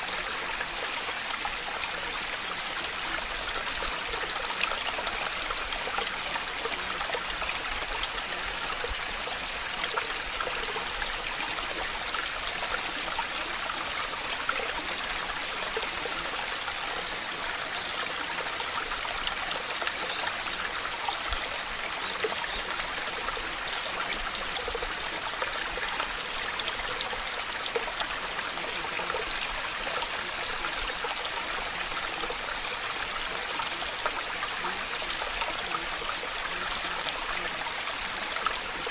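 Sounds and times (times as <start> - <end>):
running water with drips: 0.0 - 38.9.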